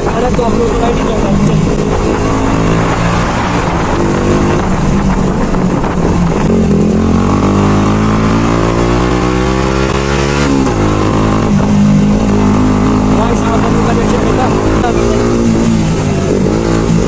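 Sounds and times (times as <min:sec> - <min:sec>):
motorcycle engine revving: 0:00.0 - 0:17.0
rushing wind: 0:00.0 - 0:17.0.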